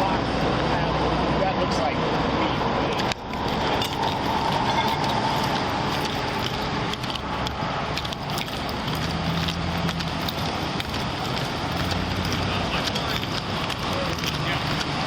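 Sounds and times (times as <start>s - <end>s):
highway traffic: 0.0s - 15.0s
steady whine: 0.0s - 15.0s
handling clicks and rustles: 2.6s - 15.0s.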